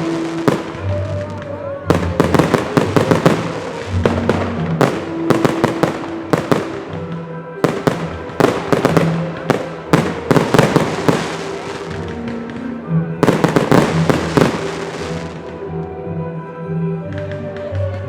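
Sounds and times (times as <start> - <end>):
fireworks bangs and crackling: 0.0 - 15.6
music with held notes: 0.0 - 18.0.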